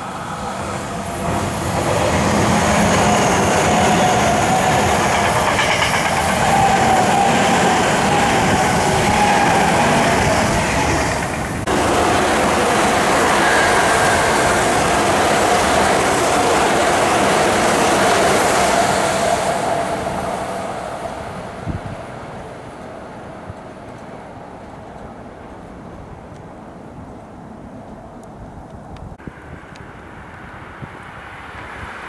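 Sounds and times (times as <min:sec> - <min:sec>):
passing train rumble: 0:00.0 - 0:32.0.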